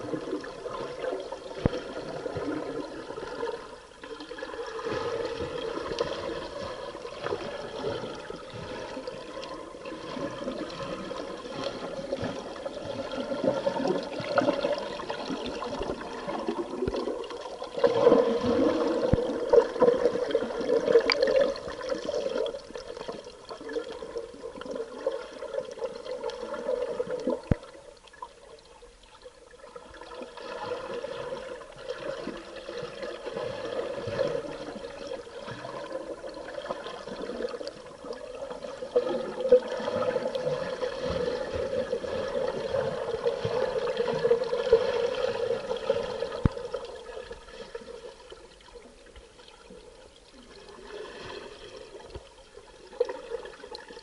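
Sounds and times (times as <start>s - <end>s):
underwater breathing bubbles: 0.0s - 27.8s, 29.8s - 54.0s.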